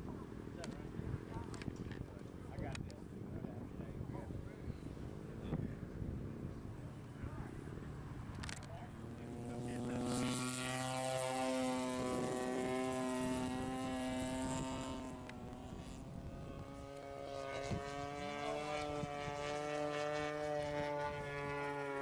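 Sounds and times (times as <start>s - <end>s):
model airplane engine droning: 0.0s - 22.0s.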